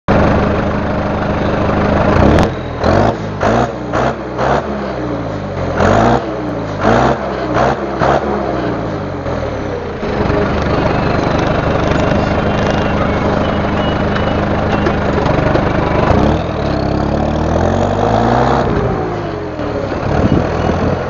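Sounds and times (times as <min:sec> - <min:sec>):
tractor diesel engine revving: 0:00.1 - 0:21.0.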